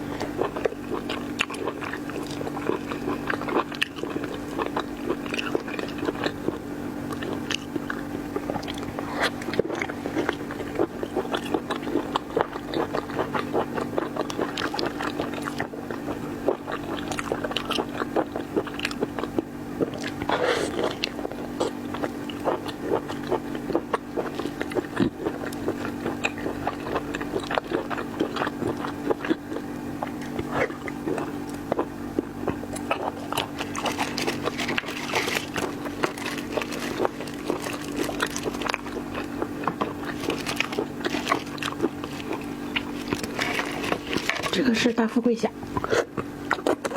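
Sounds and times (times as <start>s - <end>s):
biting and chewing: 0.0s - 44.8s, 45.6s - 46.9s
steady low hum: 0.0s - 46.9s.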